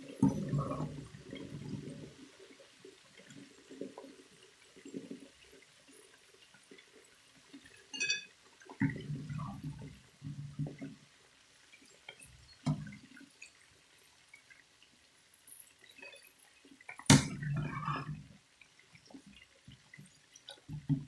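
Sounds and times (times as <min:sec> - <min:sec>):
fries frying in hot oil: 0:00.0 - 0:21.0.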